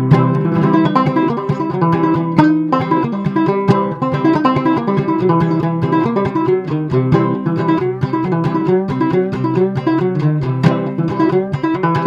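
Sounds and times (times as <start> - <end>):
banjo plucked notes: 0.0 - 12.0.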